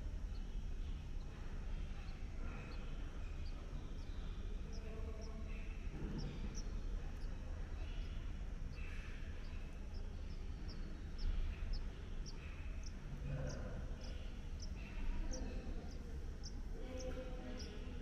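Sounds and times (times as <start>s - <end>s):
faint calls: 0.0s - 18.0s
steady low rumble: 0.0s - 18.0s.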